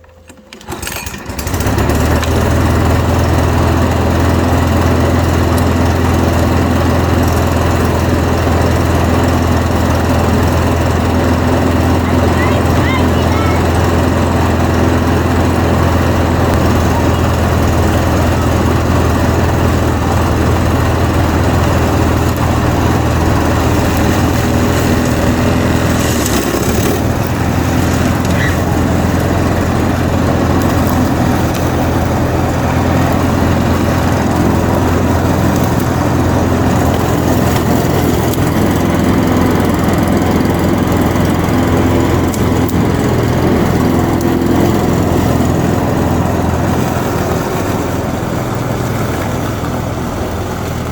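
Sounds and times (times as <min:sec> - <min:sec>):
lawnmower engine running: 0:00.0 - 0:50.9.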